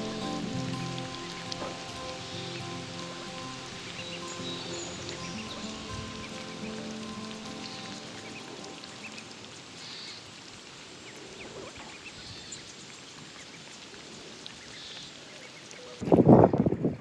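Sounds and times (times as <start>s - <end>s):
light rain pattering: 0.0s - 16.8s.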